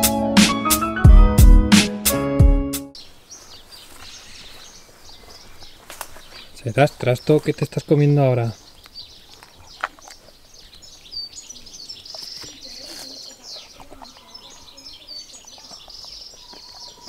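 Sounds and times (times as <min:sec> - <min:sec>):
small birds chirping: 0:02.9 - 0:17.0.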